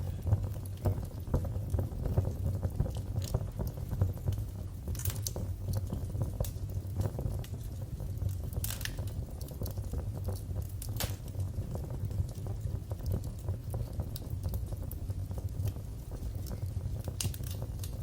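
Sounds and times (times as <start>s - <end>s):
sharp pops of fire: 0.0s - 18.0s
wood fire crackling: 0.0s - 18.0s.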